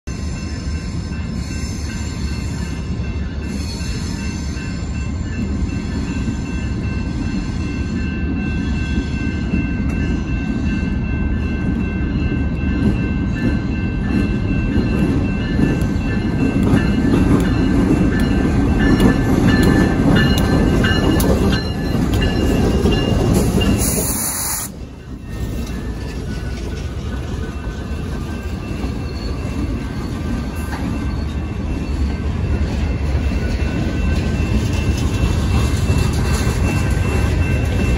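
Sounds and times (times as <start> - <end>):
diesel locomotives rumbling: 0.1 - 37.9.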